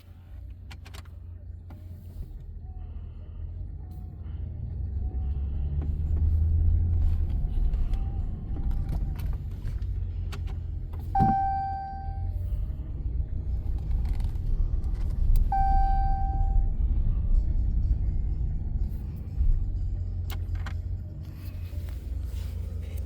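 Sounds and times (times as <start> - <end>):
pickup engine rumbling: 0.0 - 23.0.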